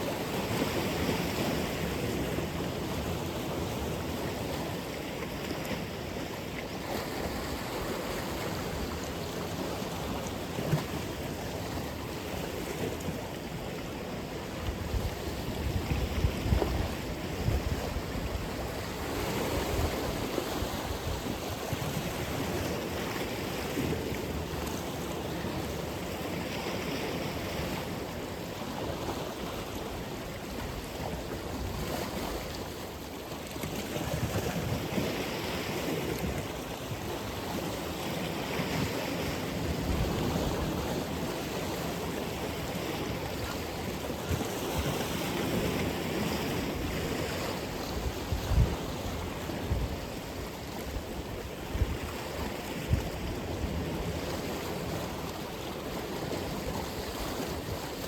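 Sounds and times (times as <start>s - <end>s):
surf waves breaking: 0.0s - 58.0s.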